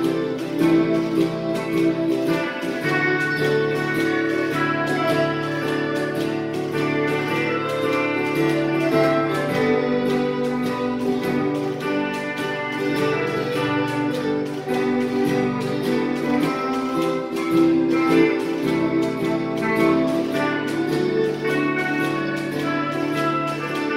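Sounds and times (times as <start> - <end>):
acoustic guitar strumming: 0.0 - 23.9
sustained melody line: 0.0 - 23.9.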